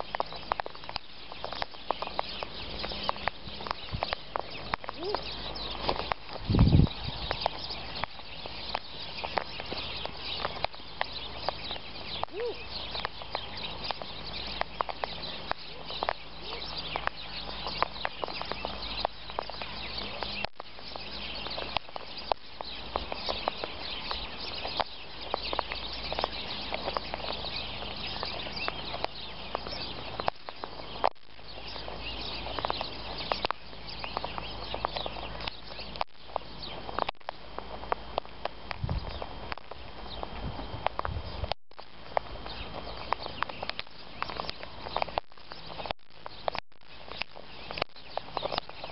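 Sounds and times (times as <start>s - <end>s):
beaks pecking and cracking seed: 0.0s - 48.9s.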